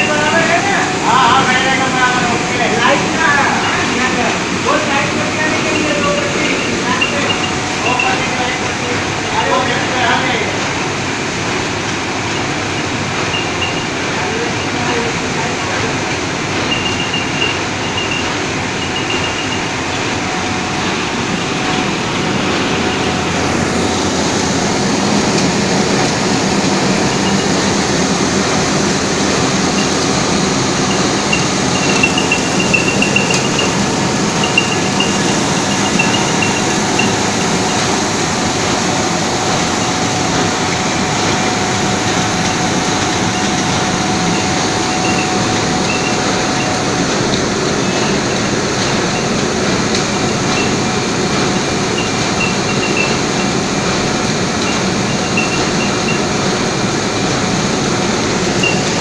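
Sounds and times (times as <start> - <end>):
machine mechanical rumble: 0.0 - 59.0.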